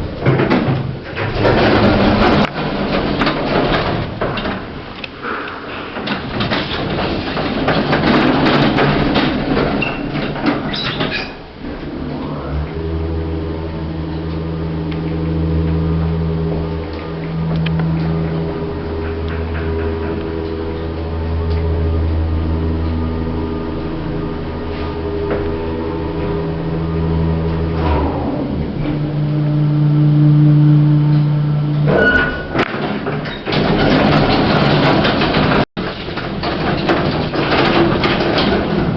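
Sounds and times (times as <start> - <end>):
lift mechanical clattering: 0.0 - 38.9.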